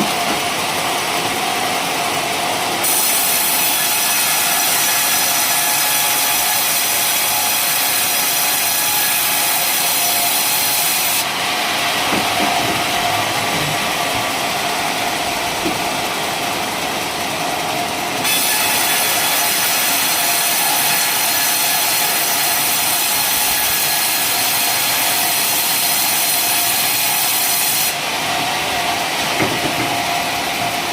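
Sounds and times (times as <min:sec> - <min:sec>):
sawmill saw cutting wood: 0:00.0 - 0:30.9.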